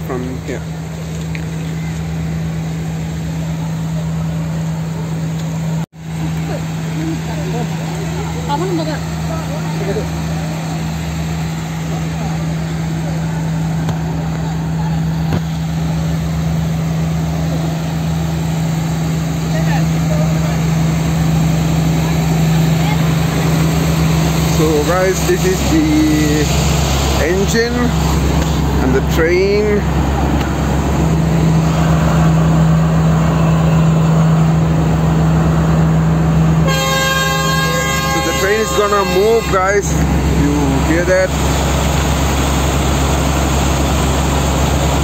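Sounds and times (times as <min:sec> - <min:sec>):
diesel locomotive engine idling: 0:00.0 - 0:45.0.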